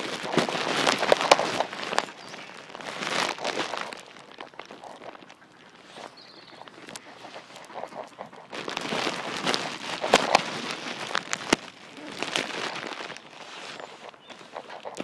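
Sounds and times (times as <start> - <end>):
footsteps through dry leaves: 0.0 - 15.0
twigs snapping: 0.0 - 15.0.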